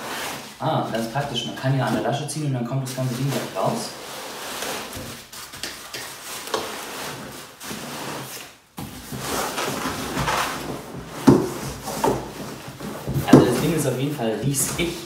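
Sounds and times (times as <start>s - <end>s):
cardboard scraping and rustling: 0.0s - 2.2s, 2.8s - 5.6s, 6.2s - 15.0s.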